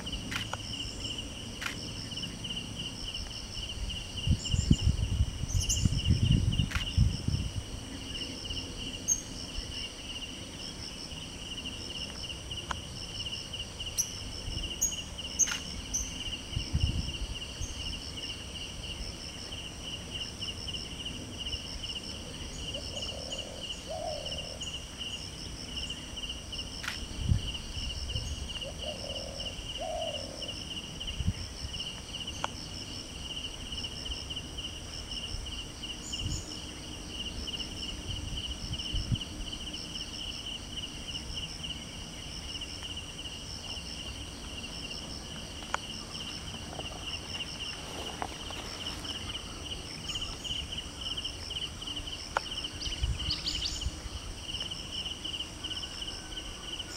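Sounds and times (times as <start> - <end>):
higher pulsing insect call: 0.0 - 56.9
insects pulsing chirps: 0.0 - 56.9.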